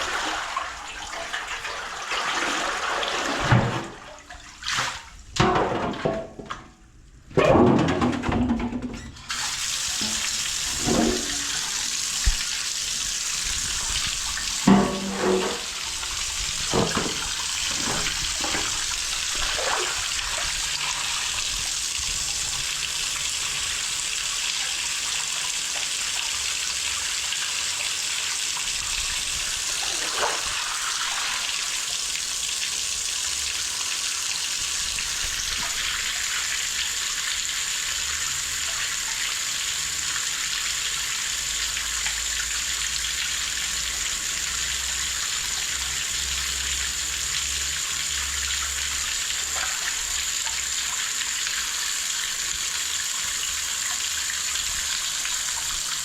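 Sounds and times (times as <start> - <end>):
water running: 9.3 - 56.0.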